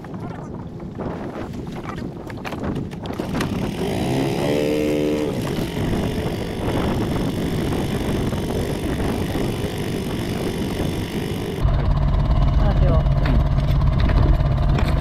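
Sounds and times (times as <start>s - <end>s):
small outboard motor running: 2.8s - 15.0s.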